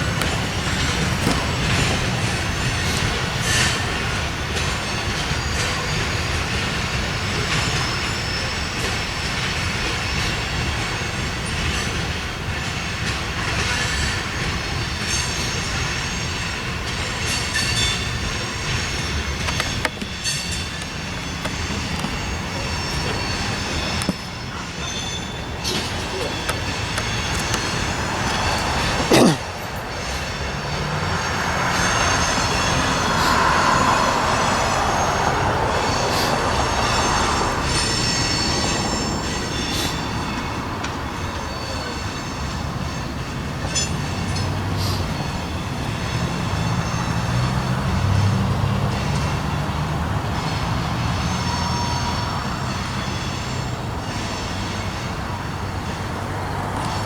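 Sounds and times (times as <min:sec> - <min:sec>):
railcars rumbling: 0:00.0 - 0:57.0
train wheels clicking: 0:00.0 - 0:57.0
train wheels squealing: 0:00.0 - 0:57.0.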